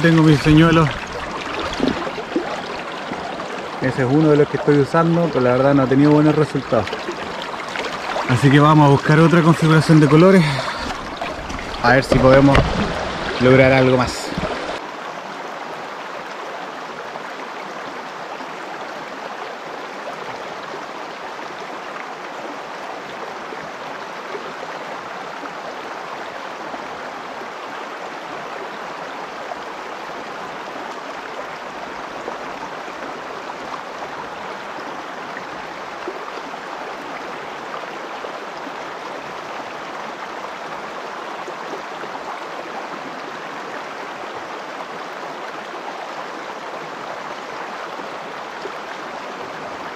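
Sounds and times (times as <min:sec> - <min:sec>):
river water running over stones: 0:00.0 - 0:49.9.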